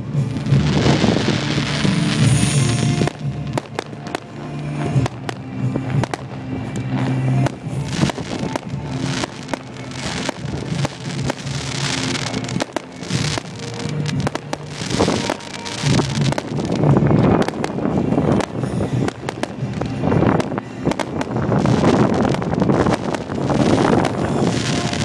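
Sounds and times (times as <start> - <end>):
fireworks bangs and crackling: 0.0 - 25.0
music playing: 0.0 - 25.0.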